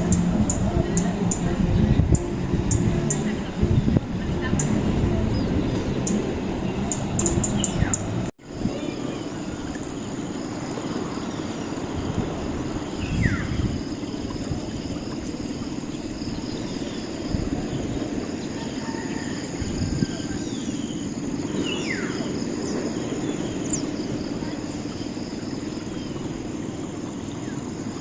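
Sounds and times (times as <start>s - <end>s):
insects chirping: 0.0s - 28.0s
steady noise bed: 0.0s - 28.0s
falling bird calls: 4.6s - 28.0s.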